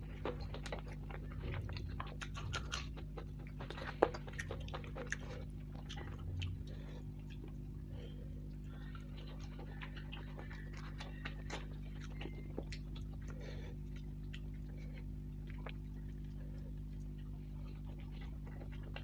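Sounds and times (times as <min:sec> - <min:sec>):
fingers squishing bread in gravy: 0:00.0 - 0:19.0
small wet clicks and crackles: 0:00.0 - 0:19.0
steady low hum: 0:00.0 - 0:19.0.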